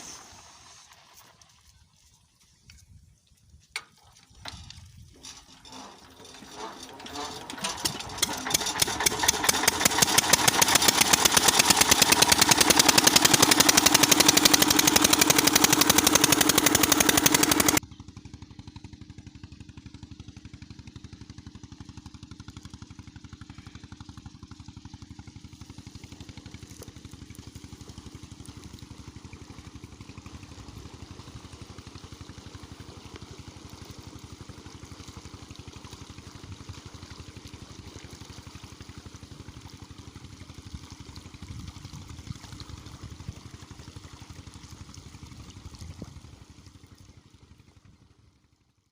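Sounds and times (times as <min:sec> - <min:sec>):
diesel pump engine running: 0:03.7 - 0:48.7.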